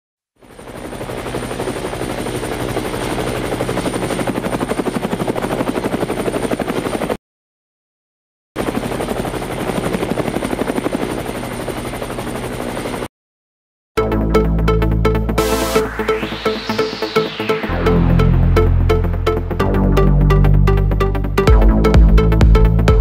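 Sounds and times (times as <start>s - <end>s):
helicopter rotor beating: 0.4s - 7.2s, 8.6s - 13.1s, 14.0s - 23.0s.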